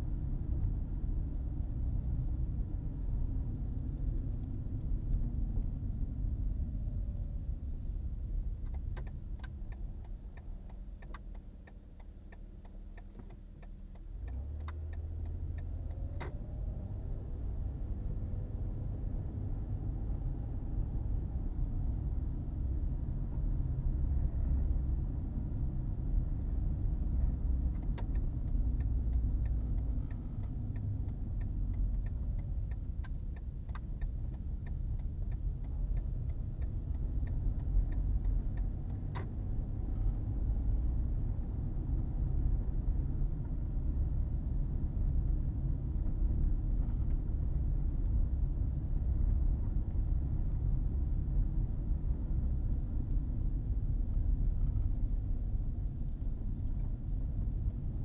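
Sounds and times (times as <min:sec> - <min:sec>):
road and engine rumble: 0:00.0 - 0:58.0
turn signal ticking: 0:00.0 - 0:58.0.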